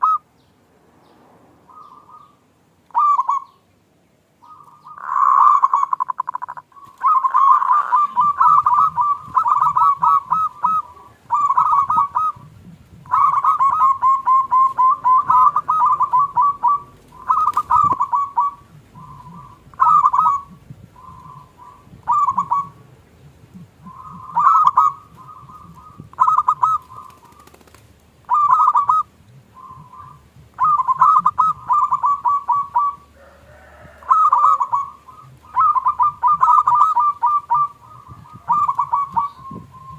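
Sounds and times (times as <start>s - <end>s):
dove cooing: 0.0s - 0.2s, 1.7s - 3.6s, 4.4s - 39.9s.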